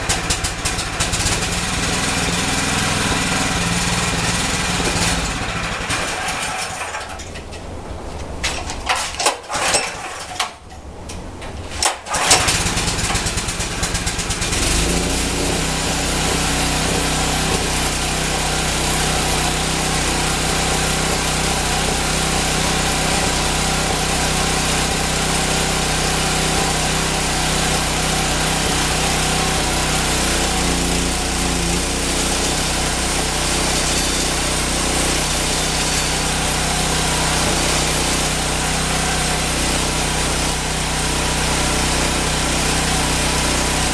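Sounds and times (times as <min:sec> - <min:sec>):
small engine running: 0:00.0 - 0:07.3, 0:11.9 - 0:43.9.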